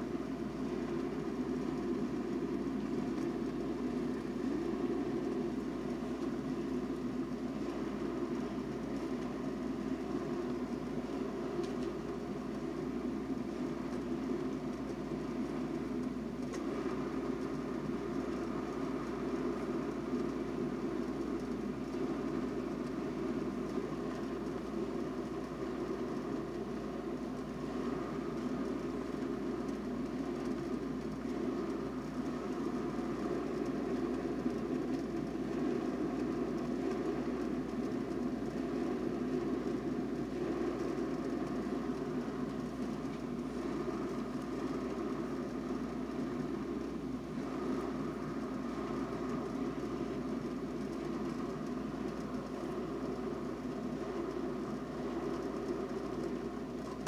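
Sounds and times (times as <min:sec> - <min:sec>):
electric kettle heating water: 0:00.0 - 0:57.0.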